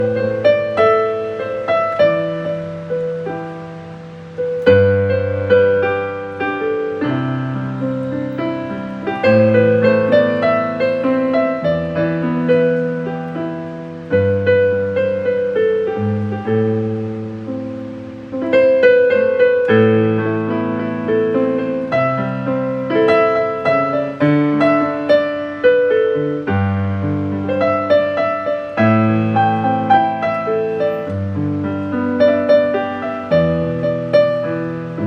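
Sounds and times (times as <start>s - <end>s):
slow gentle piano piece: 0.0s - 35.0s.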